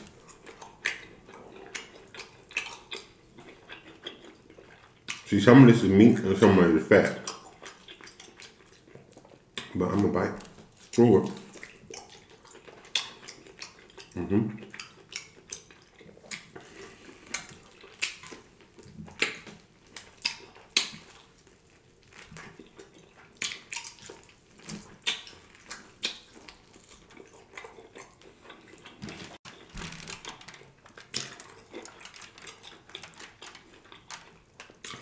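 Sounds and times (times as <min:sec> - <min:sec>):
chewing and biting meat: 0:00.0 - 0:05.3, 0:07.2 - 0:35.0.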